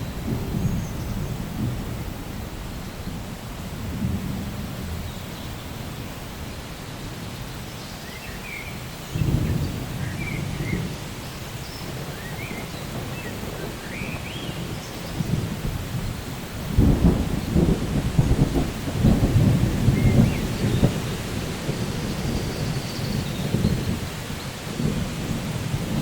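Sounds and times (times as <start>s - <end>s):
thunder rumbling: 0.0s - 7.6s, 9.1s - 26.0s
steady rain: 0.0s - 26.0s.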